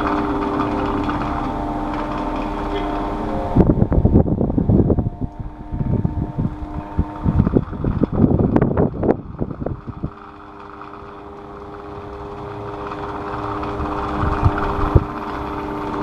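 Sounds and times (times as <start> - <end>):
electric fan humming: 0.0 - 16.0
knocks and rattles: 0.0 - 16.0.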